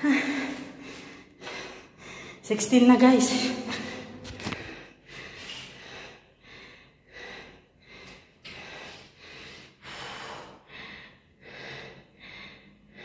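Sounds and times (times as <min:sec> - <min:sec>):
woman panting hard: 0:00.0 - 0:02.4, 0:03.5 - 0:13.0.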